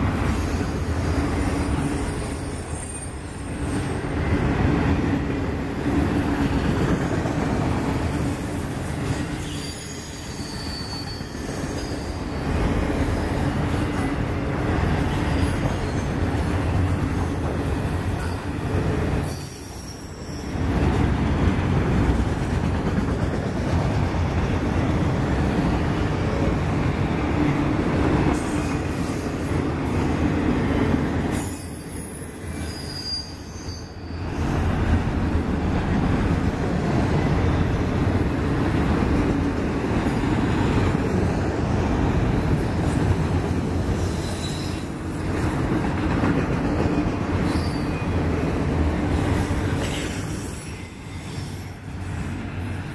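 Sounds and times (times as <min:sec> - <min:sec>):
freight cars rolling on rails: 0:00.0 - 0:52.9.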